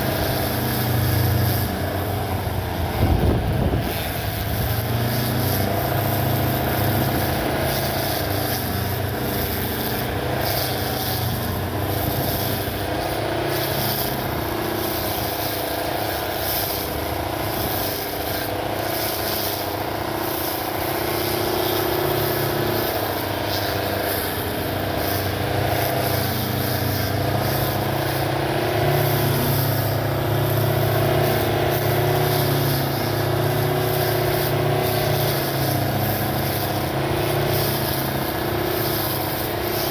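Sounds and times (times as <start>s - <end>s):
electric motor hum: 0.0s - 39.9s.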